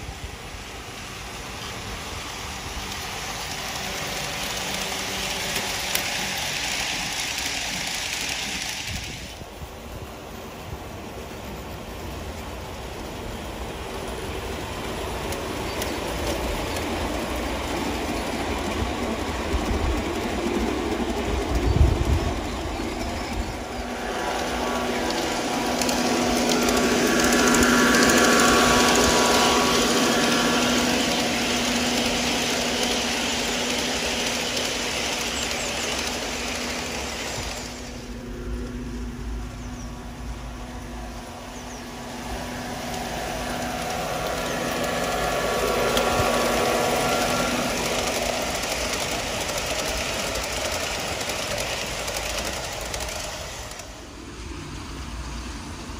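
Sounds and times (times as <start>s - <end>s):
model train motor hum: 0.0s - 55.9s
train wheel noise: 0.0s - 55.9s.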